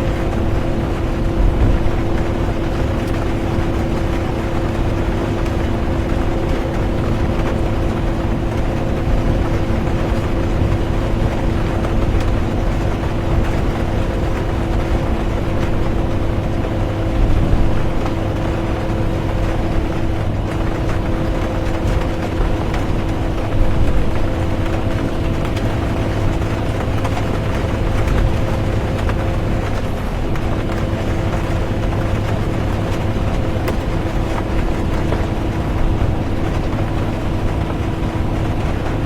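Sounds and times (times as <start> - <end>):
bus road rumble: 0.0 - 39.0
engine hum: 0.0 - 39.0.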